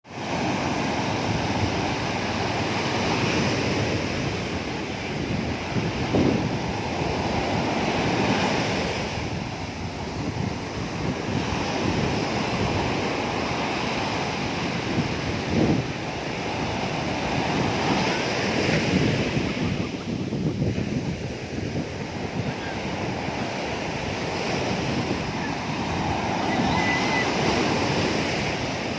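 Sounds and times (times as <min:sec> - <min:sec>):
ocean waves breaking on beach: 0:00.0 - 0:28.9
wind buffeting microphone: 0:00.2 - 0:28.9.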